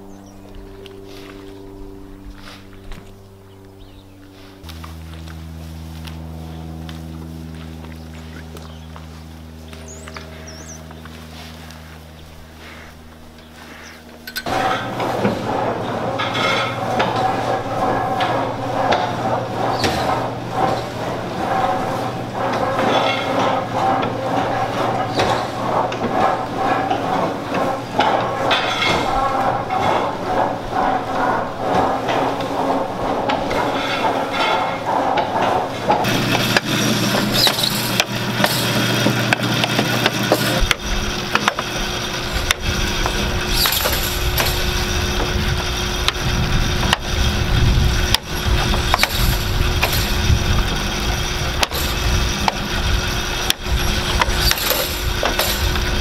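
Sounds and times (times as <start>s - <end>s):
deep steady drone: 0.0s - 56.0s
chain and paddles scraping: 3.8s - 56.0s.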